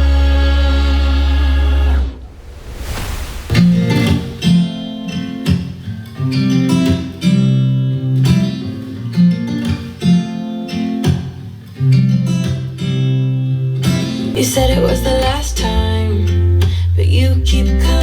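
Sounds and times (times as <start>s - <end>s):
acoustic guitar strumming chords: 3.6s - 18.0s.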